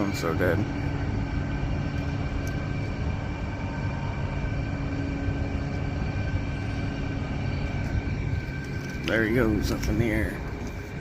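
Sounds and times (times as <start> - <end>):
mechanical drone with whine: 0.0 - 11.0.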